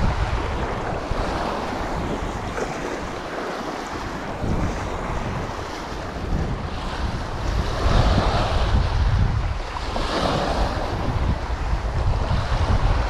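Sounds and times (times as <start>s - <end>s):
waves washing over pebbles: 0.0s - 13.0s
wind buffeting microphone: 0.0s - 13.0s.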